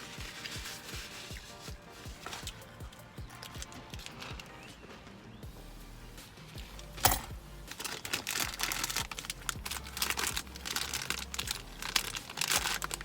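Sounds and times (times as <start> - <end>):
paper wrapper crinkling: 0.0 - 4.6, 7.0 - 13.0.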